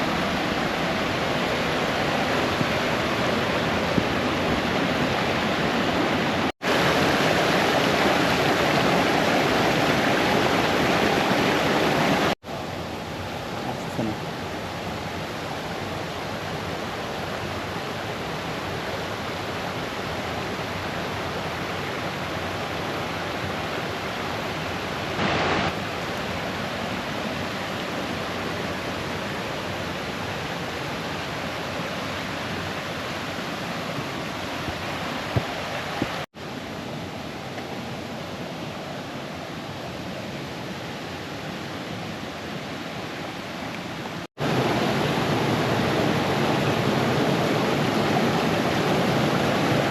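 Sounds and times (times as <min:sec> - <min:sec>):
brook cascading over stones: 0:00.0 - 0:49.9.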